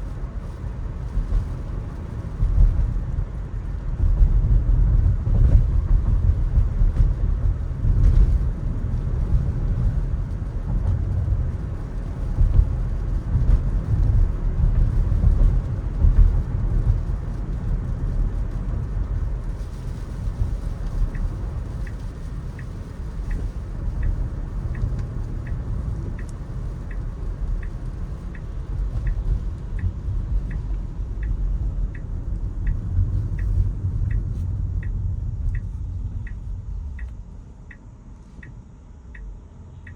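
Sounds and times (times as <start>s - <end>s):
road and tyre rumble: 0.0s - 39.9s
turn signal ticking: 0.2s - 39.9s.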